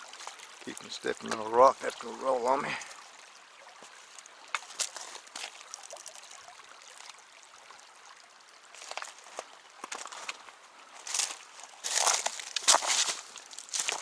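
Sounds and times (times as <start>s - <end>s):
footsteps on creek stones: 0.0s - 7.6s, 8.6s - 14.0s
creek trickling over rocks: 0.0s - 14.0s.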